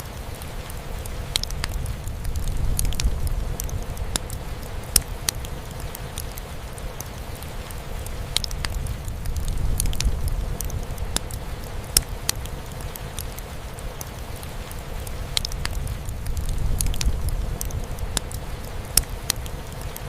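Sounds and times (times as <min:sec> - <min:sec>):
rain drumming on a roof: 0:00.0 - 0:20.0
wood fire crackling and popping: 0:00.0 - 0:20.0.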